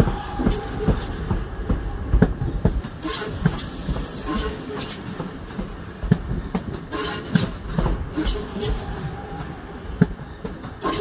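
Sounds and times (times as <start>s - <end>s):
train running rumble: 0.0s - 11.0s
train wheels clicking over rail joints: 0.0s - 11.0s.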